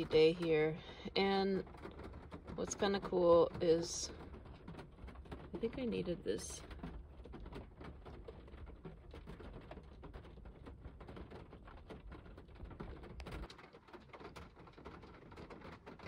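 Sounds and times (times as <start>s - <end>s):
rain pattering on car roof: 0.0s - 16.0s.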